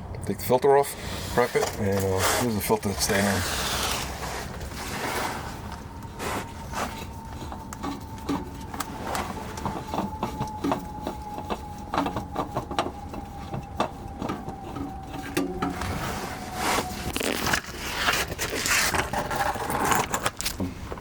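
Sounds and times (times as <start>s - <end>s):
faint steady whine: 0.0s - 21.0s.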